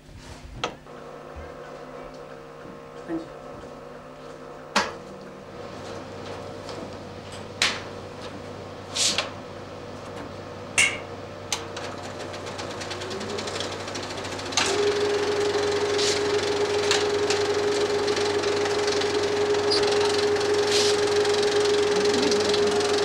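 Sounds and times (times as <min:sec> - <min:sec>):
film projector humming and clattering: 0:00.6 - 0:23.0.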